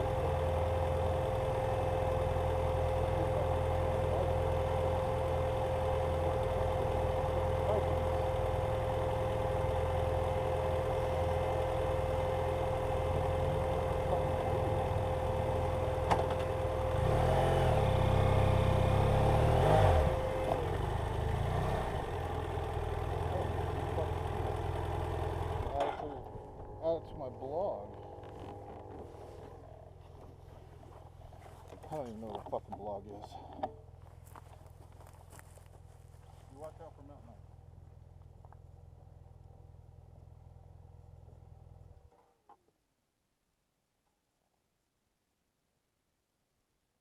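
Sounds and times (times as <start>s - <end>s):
motorcycle engine running: 0.0s - 42.2s.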